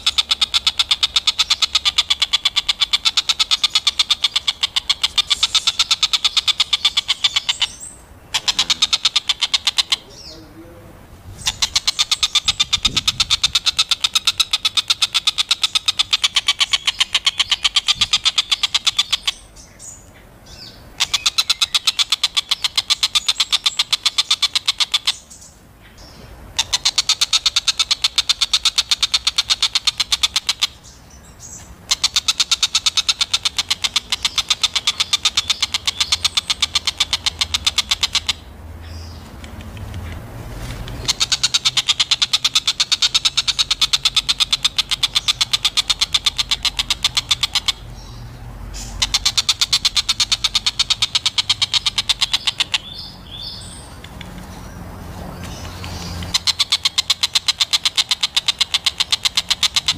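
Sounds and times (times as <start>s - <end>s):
bird rapid chattering call: 0.0s - 10.6s, 11.4s - 59.9s.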